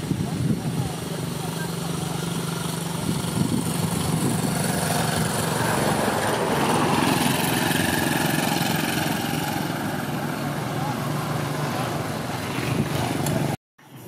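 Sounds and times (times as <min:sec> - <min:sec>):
motor engine running: 0:00.0 - 0:13.6.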